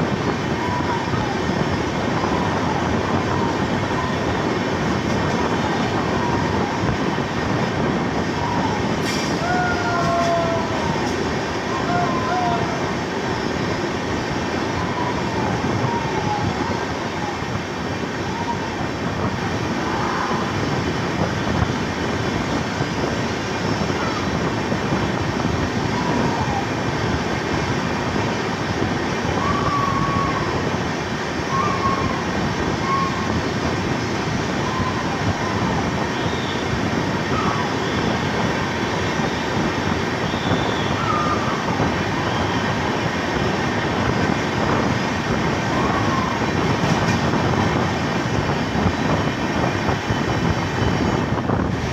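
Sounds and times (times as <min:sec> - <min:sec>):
train wheels rolling on track: 0:00.0 - 0:51.9.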